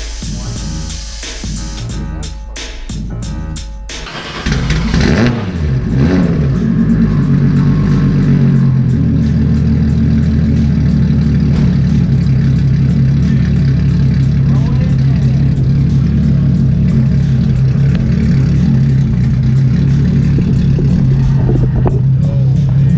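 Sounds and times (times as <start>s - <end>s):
car engine revving and idling: 0.0s - 2.3s, 2.9s - 22.9s.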